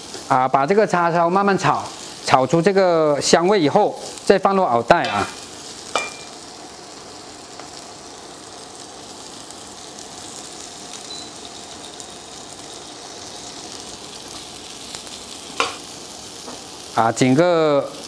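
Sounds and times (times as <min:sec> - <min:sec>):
meat sizzling in a wok: 0:00.0 - 0:18.0.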